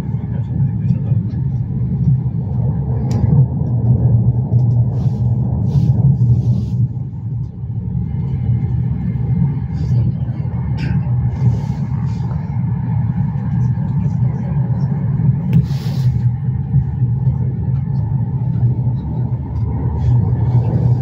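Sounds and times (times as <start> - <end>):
train rumble from on board: 0.0 - 21.0.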